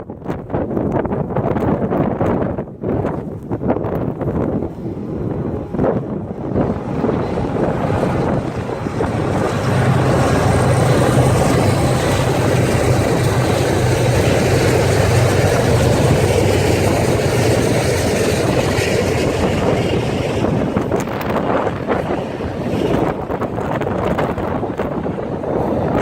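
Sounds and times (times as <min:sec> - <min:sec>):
wind buffeting microphone: 0:00.0 - 0:26.0
freight train passing: 0:02.8 - 0:26.0.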